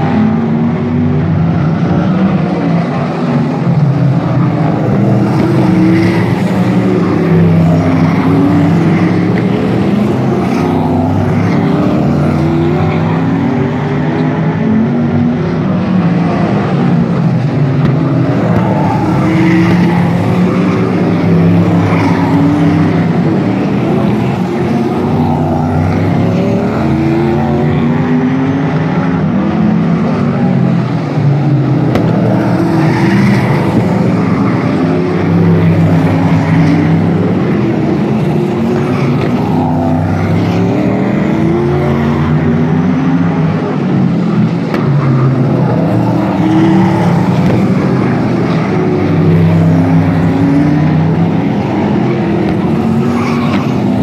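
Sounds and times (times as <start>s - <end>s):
race car engines: 0.0s - 54.0s.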